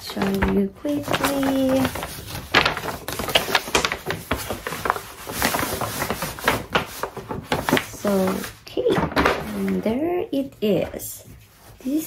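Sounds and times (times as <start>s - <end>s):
paper packaging rustling: 0.0s - 12.0s.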